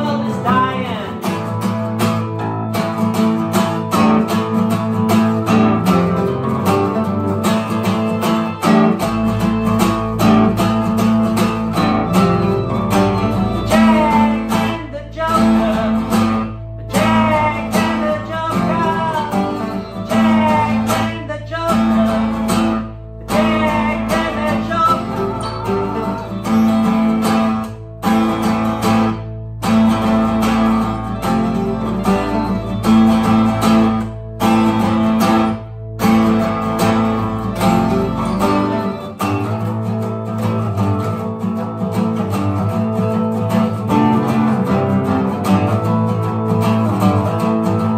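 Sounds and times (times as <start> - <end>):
keyboard: 0.0 - 41.9
acoustic guitars strummed: 0.0 - 47.9.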